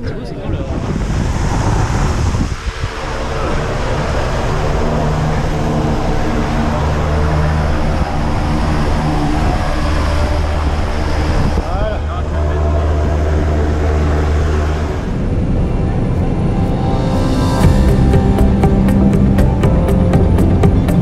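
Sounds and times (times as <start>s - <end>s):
propeller plane engine idling: 1.8s - 21.0s.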